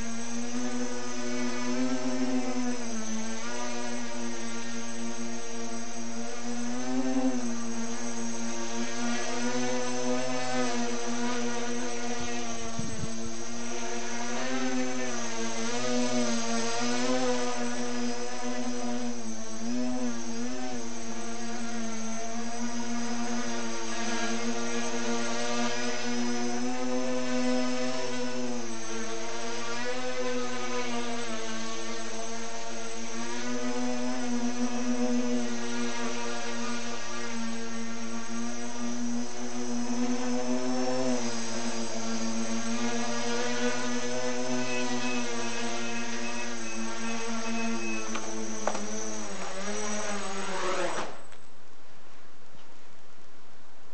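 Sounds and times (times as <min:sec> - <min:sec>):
drone propellers buzzing: 0:00.0 - 0:51.5.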